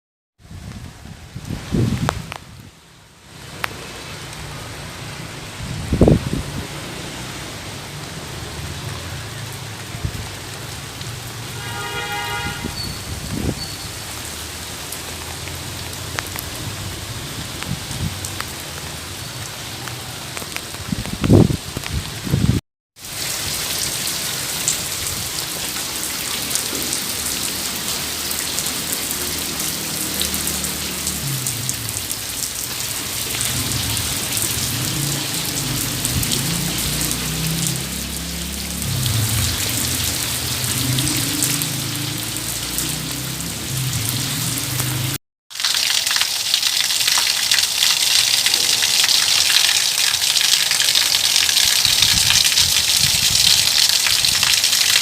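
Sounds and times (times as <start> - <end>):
rain pattering on surfaces: 0.4 - 55.0.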